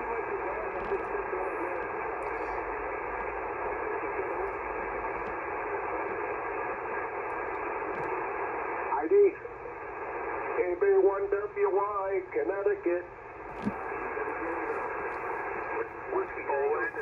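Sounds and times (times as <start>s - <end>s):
radio receiver hiss: 0.0s - 17.0s.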